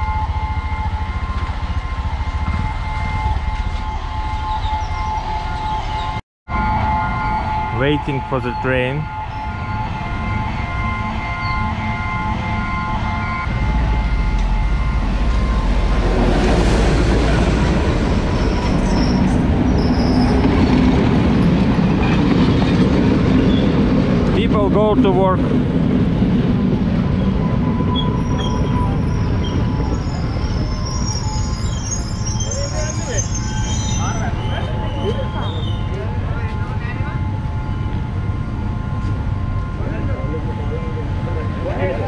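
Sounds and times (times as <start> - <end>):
level crossing warning tone: 0.0 - 42.0
train wagons rumbling over rails: 0.0 - 42.0.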